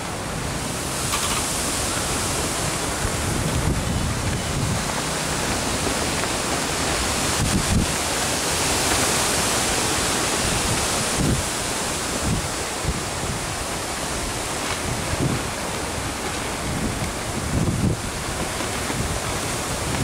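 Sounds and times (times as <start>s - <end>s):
low rumbles of gusts: 0.0s - 20.0s
strong wind on microphone: 0.0s - 20.0s.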